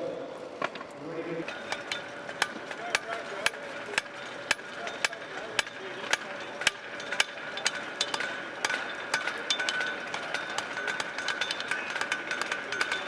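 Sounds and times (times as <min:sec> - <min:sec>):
anvils ringing: 0:01.4 - 0:13.0
hammers striking steel on anvils: 0:01.4 - 0:13.0.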